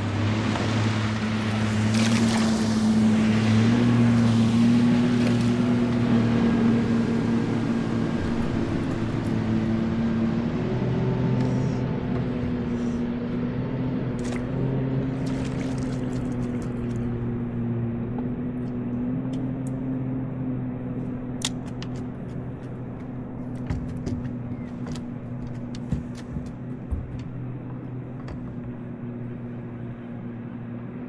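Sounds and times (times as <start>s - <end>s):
motor running steadily: 0.0s - 31.0s.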